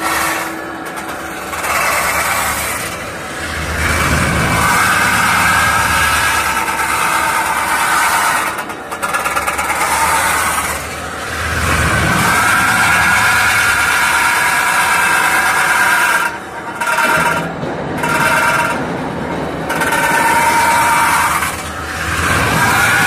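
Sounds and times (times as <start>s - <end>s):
loud steady machine whine: 0.0s - 23.0s.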